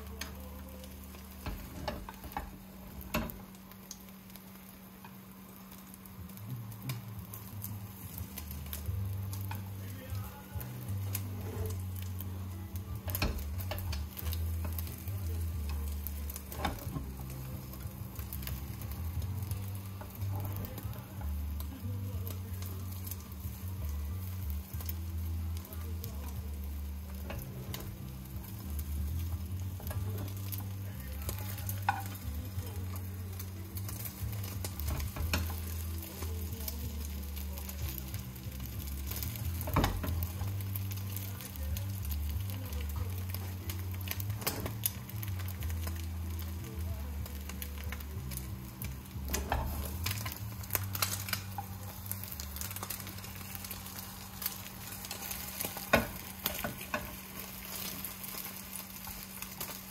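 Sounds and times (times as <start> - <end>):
egg sizzling in a pan: 0.0 - 59.9.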